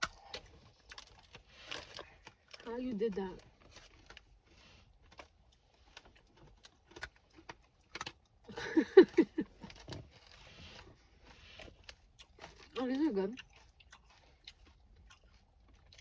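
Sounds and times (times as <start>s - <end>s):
snack packets crinkling: 0.0s - 16.0s.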